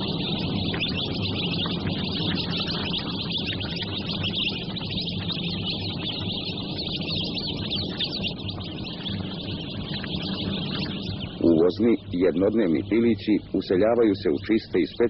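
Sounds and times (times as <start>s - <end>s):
chicks peeping: 0.0s - 15.0s
low steady hum: 0.0s - 15.0s.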